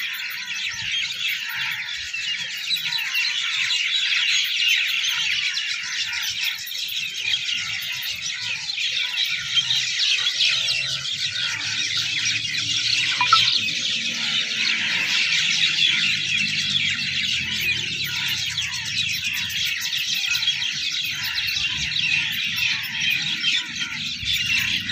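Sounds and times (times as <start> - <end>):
birds chorus: 0.0 - 24.9.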